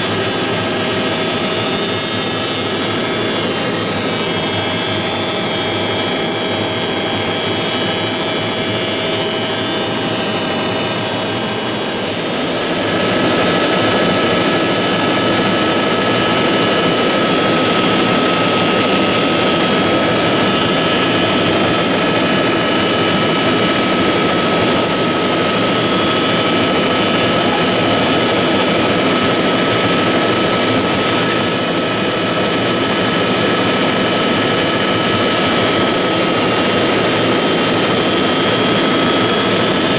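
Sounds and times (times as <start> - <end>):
helicopter turbine whine: 0.0 - 39.9
rotor and engine roar: 0.0 - 39.9.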